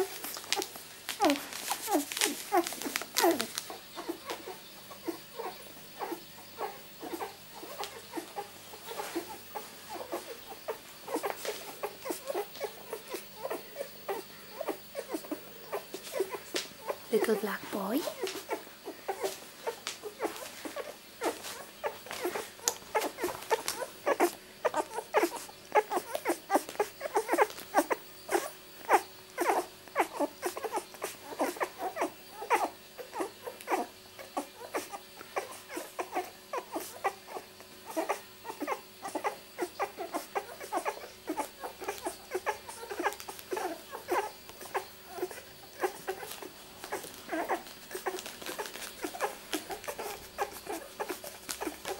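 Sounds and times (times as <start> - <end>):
puppies suckling: 0.0 - 51.9
puppy squeaks and whimpers: 0.0 - 51.9.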